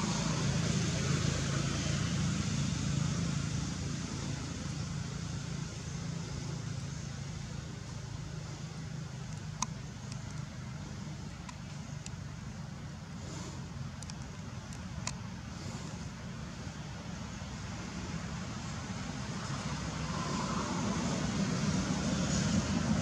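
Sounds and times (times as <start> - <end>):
motor vehicle rumbling: 0.0 - 23.0.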